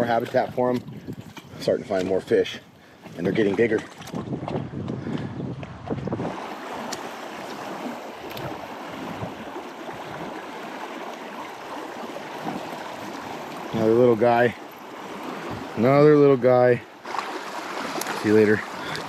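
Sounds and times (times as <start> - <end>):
creek water over rocks: 0.0 - 19.0.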